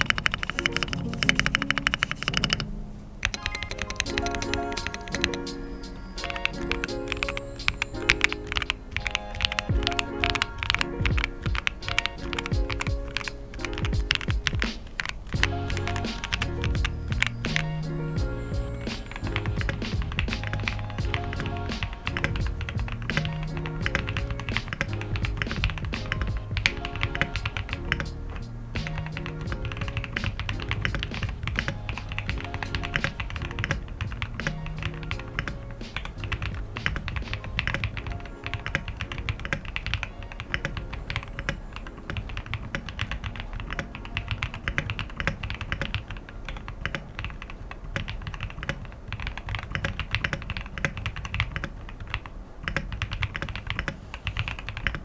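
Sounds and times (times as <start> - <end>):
mechanical keyboard typing: 0.0 - 5.5, 6.2 - 17.4, 19.1 - 28.1, 28.8 - 55.0
background music: 0.0 - 48.0.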